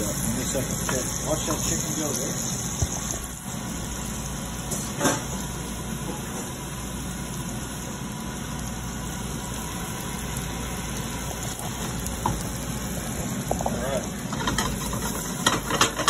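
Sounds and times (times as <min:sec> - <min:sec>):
chicken frying in oil: 0:00.0 - 0:16.0.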